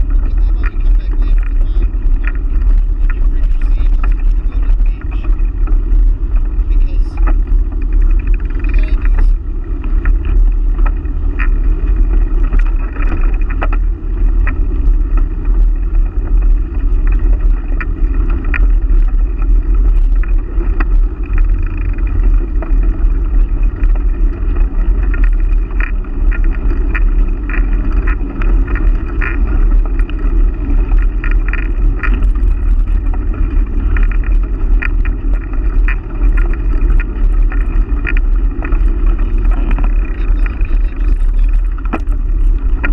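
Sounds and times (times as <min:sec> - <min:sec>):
bicycle tyres rolling on asphalt: 0:00.0 - 0:42.9
bike clicks and rattles: 0:00.0 - 0:42.9
wind on microphone: 0:00.0 - 0:42.9.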